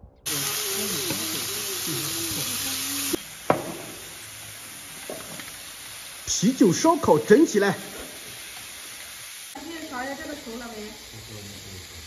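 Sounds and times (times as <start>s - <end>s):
meat sizzling on grill pan: 0.3s - 12.0s.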